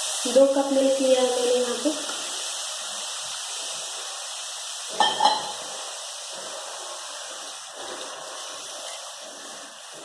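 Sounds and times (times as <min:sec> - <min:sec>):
flour sizzling in hot fat: 0:00.0 - 0:10.0.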